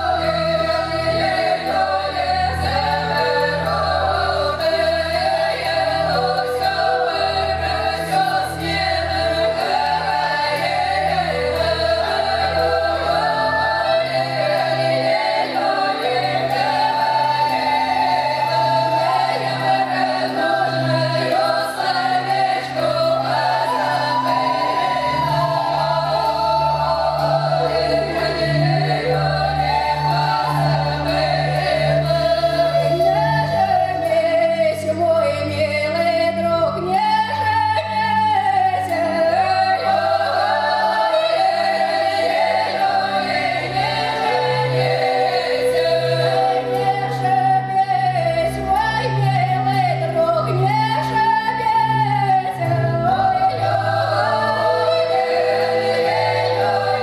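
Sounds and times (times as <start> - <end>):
women singing folk song: 0.0 - 57.0.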